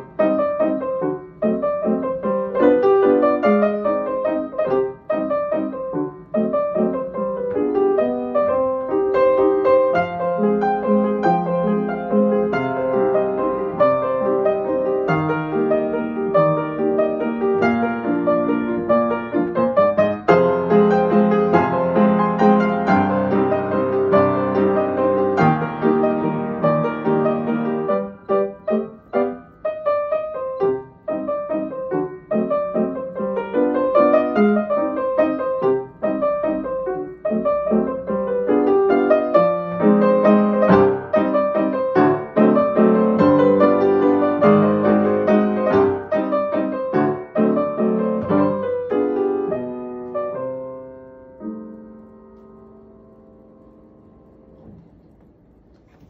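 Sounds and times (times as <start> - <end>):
upright piano playing: 0.0 - 56.0.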